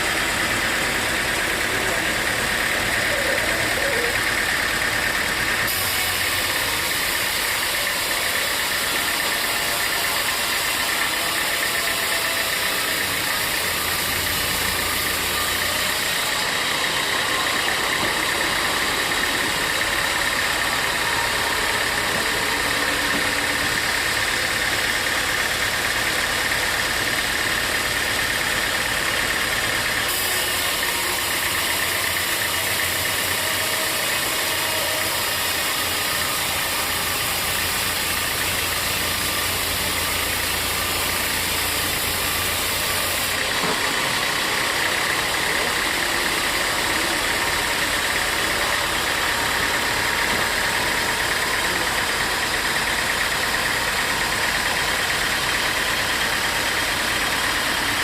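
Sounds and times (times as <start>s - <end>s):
continuous mechanical noise: 0.0s - 58.0s
saw whining: 0.0s - 58.0s.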